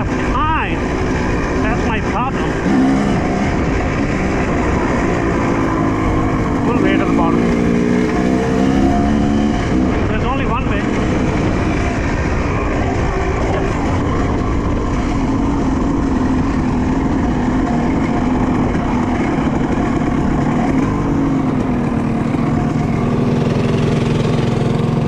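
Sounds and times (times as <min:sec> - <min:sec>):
dirt bike engine running: 0:00.0 - 0:25.0
rough riding noise: 0:00.0 - 0:25.0.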